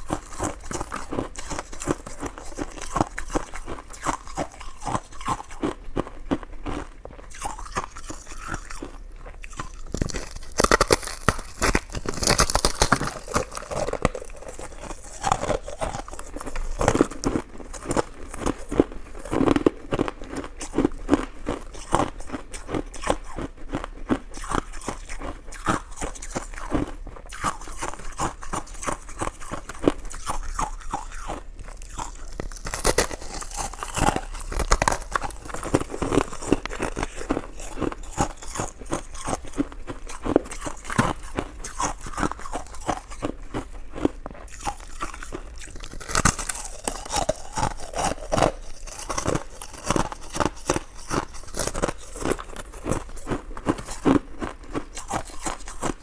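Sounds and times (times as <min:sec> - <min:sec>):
person chewing sticky food: 0:00.0 - 0:56.0.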